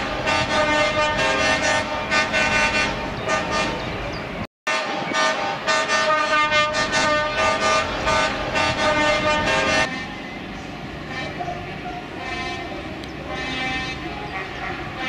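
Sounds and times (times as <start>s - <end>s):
truck horns tooting: 0.0s - 15.0s.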